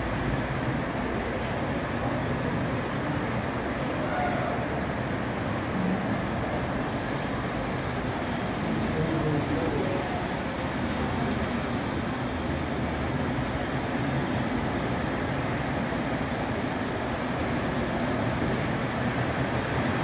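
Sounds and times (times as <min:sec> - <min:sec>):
exhibit hall background noise: 0:00.0 - 0:20.0
model trains rumbling: 0:00.0 - 0:20.0.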